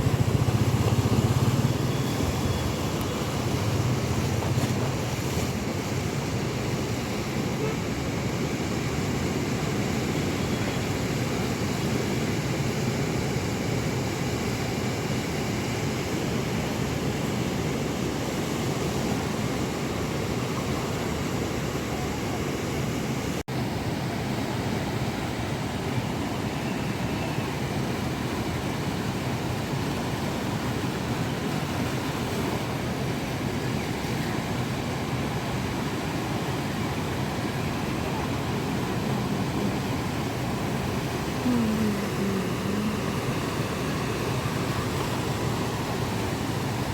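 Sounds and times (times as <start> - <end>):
rough sea surf: 0.0 - 46.9.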